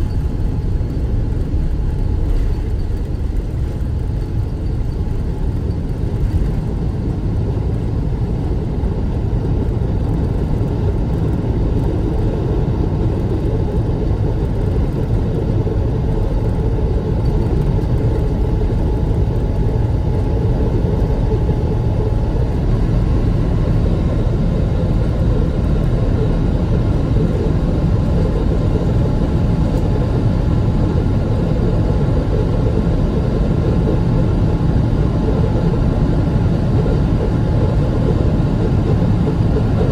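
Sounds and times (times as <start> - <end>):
jet airliner engines rumbling: 0.0 - 39.9.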